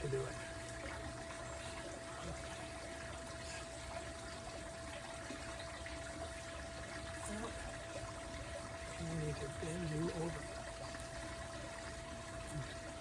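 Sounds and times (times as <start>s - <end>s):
faint high hum: 0.0s - 13.0s
trickling water: 0.0s - 13.0s.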